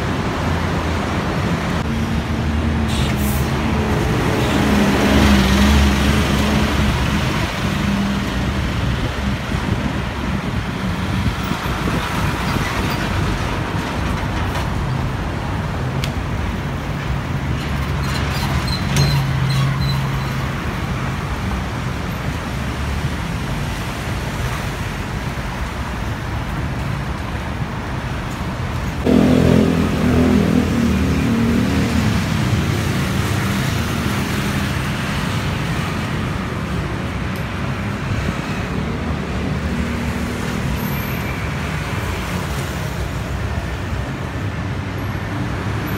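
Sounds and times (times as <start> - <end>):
road traffic noise: 0.0 - 45.9.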